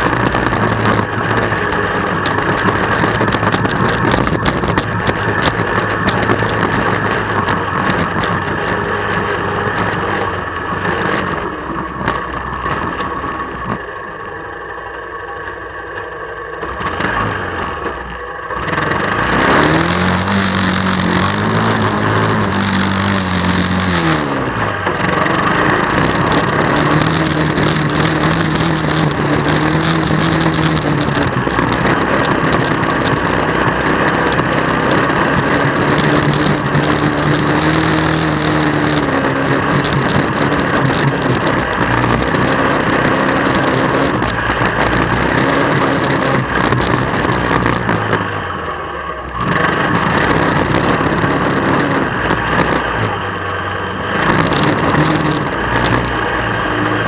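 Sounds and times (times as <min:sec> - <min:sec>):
atv engine revving: 0:00.0 - 0:57.0
steady noisy rush: 0:00.0 - 0:57.0.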